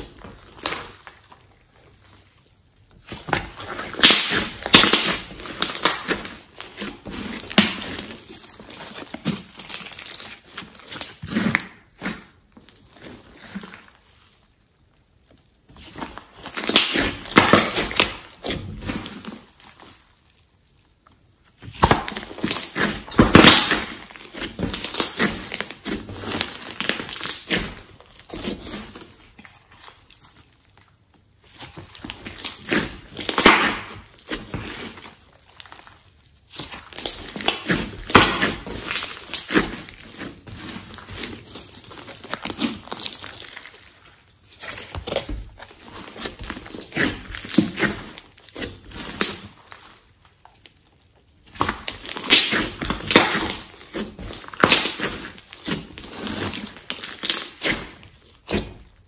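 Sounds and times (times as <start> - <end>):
sticky slime crackling and popping: 0.0 - 59.0.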